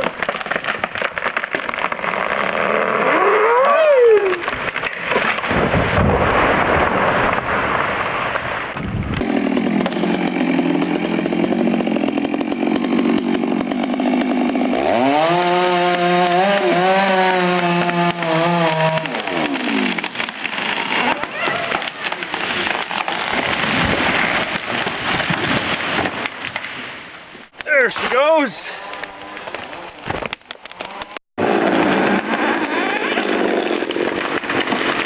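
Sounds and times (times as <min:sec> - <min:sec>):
chainsaw cutting wood: 0:00.0 - 0:03.7, 0:08.7 - 0:26.8, 0:28.7 - 0:35.0.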